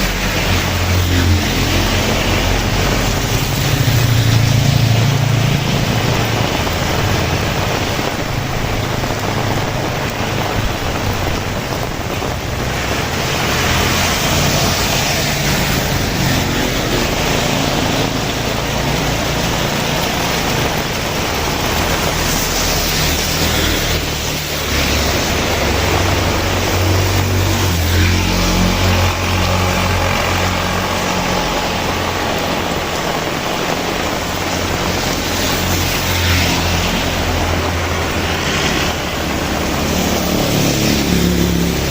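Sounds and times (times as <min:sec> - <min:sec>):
heavy rain hissing: 0:00.0 - 0:41.9
vehicle engine rumbling: 0:00.0 - 0:41.9.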